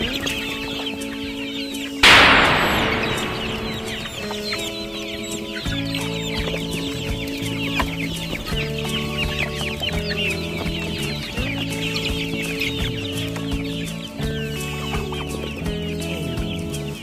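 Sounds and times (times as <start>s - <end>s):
background music with low chords: 0.0s - 17.0s
young chickens peeping and clucking: 0.0s - 17.0s.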